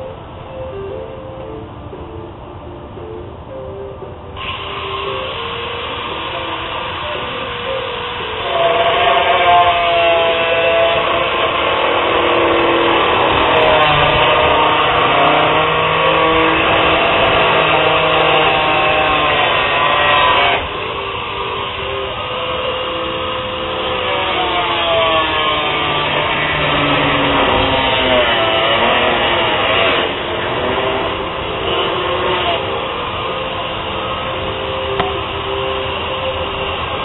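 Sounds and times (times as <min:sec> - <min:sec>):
power tool grinding plastic: 0:04.4 - 0:37.0.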